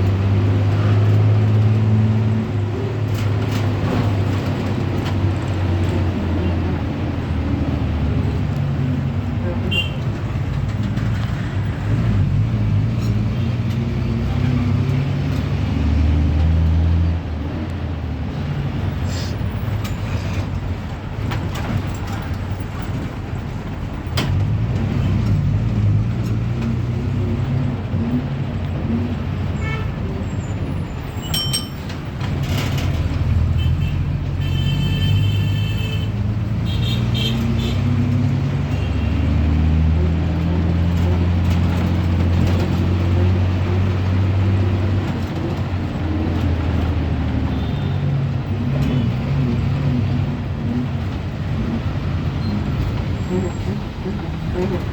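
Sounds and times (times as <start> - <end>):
bus diesel engine running: 0.0 - 36.6, 37.6 - 54.9.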